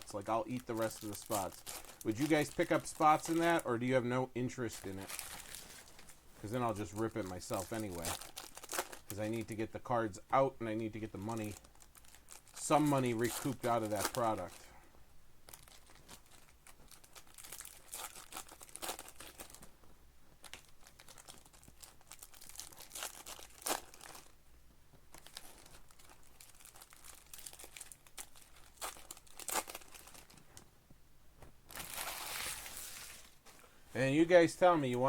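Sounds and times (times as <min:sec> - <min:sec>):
card wrappers crinkling and tearing: 0:00.0 - 0:03.7, 0:04.6 - 0:09.7, 0:10.8 - 0:14.8, 0:15.4 - 0:19.7, 0:20.4 - 0:24.4, 0:25.1 - 0:30.6, 0:31.7 - 0:33.6.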